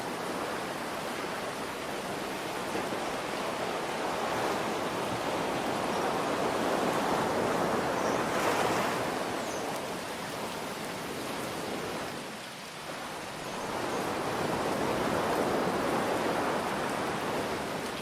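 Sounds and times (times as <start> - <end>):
ocean surf: 0.0 - 18.0
rain: 0.0 - 18.0.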